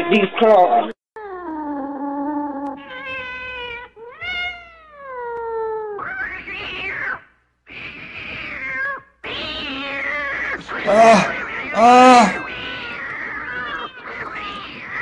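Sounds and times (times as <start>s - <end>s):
cat meowing and yowling: 1.2s - 15.0s.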